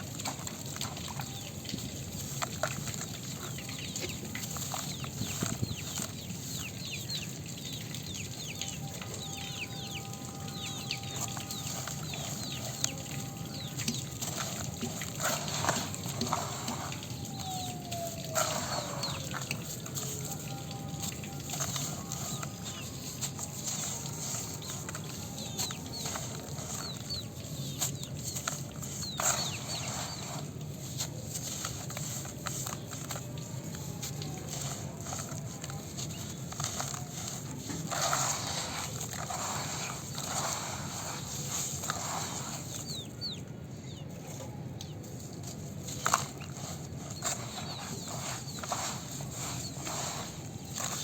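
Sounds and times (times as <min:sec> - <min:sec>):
birds chirping: 0:00.0 - 0:51.0
dirt crumbling with crackles: 0:00.0 - 0:51.0
steady gritty hiss: 0:00.0 - 0:51.0.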